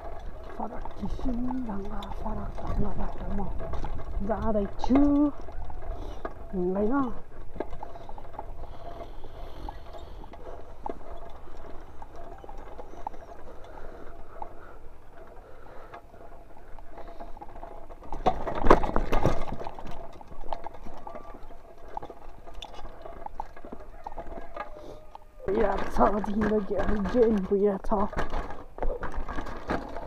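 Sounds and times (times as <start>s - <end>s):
bike rattles and clicks: 0.0s - 30.0s
tyres crunching over dirt and stones: 0.0s - 30.0s.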